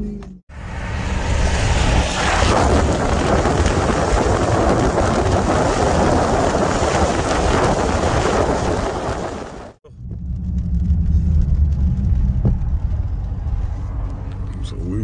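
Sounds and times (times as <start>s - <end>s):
heavy wind noise: 0.9s - 14.4s.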